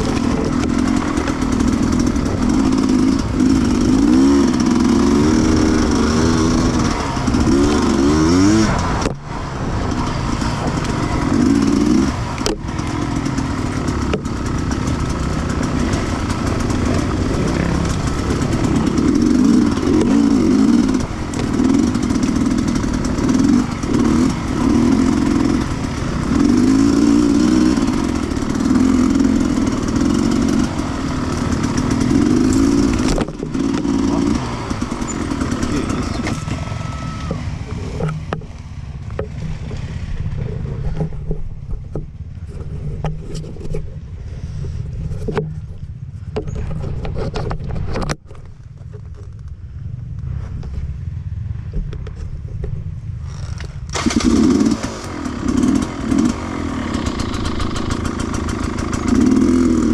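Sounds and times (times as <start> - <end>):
motorcycle engine revving: 0.0 - 43.8, 49.0 - 59.9.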